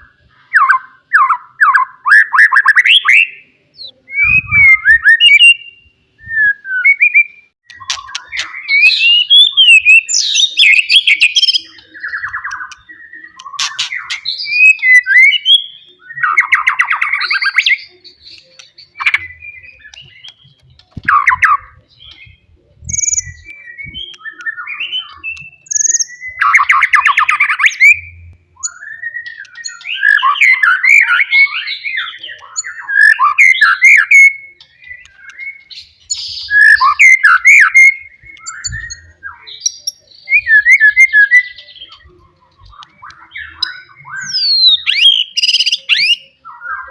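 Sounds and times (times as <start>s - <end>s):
bird singing whistles and trills: 0.0s - 46.9s.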